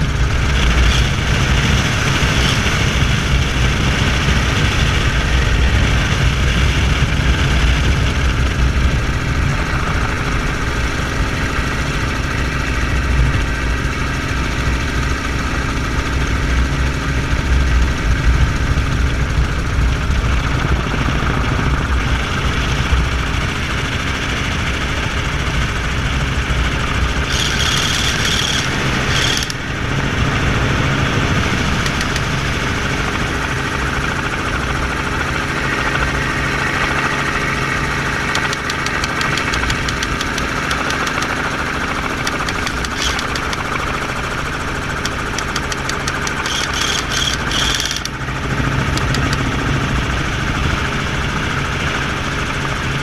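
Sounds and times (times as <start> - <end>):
helicopter engine and rotor noise: 0.0 - 53.0.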